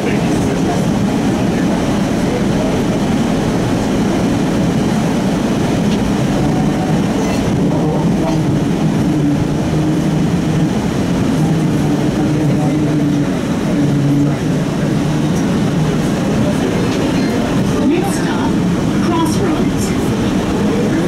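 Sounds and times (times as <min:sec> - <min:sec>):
streetcar wheels and motors rumbling: 0:00.0 - 0:21.0.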